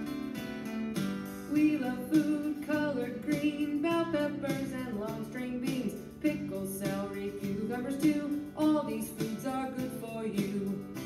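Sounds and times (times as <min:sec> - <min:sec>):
strummed acoustic guitar: 0:00.0 - 0:11.0
person singing children's song: 0:01.5 - 0:11.0.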